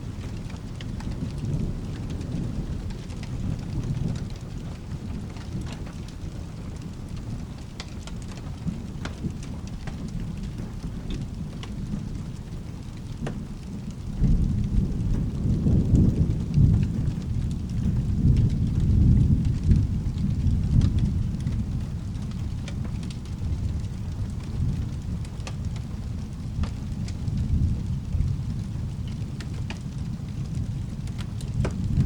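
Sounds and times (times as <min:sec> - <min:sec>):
rolling thunder: 0:00.0 - 0:07.6, 0:08.5 - 0:32.0
fireplace crackles: 0:00.0 - 0:32.0
steady rain: 0:00.0 - 0:32.0.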